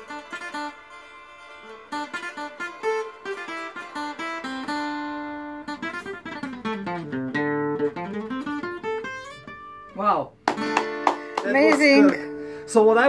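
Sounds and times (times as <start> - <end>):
acoustic guitar melody: 0.0 - 13.0.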